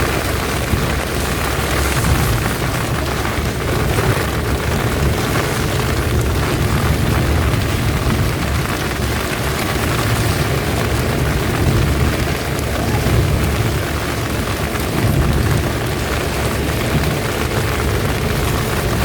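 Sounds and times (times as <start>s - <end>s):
deep rumble: 0.0s - 19.0s
heavy rain pouring: 0.0s - 19.0s.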